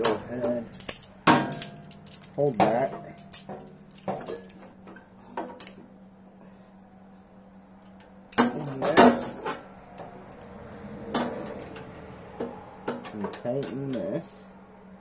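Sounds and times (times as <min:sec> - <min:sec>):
metal tools clanking on steel: 0:00.0 - 0:05.9, 0:07.8 - 0:14.2.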